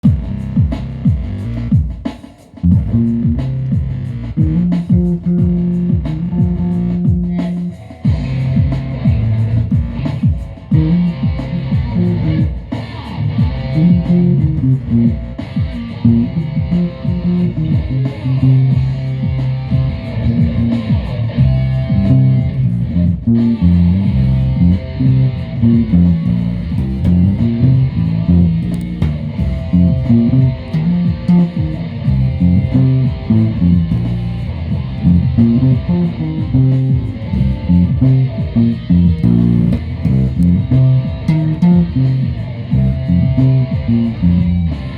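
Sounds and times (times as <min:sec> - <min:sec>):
low bass line: 0:00.0 - 0:44.9
plucked guitar notes: 0:02.6 - 0:44.9.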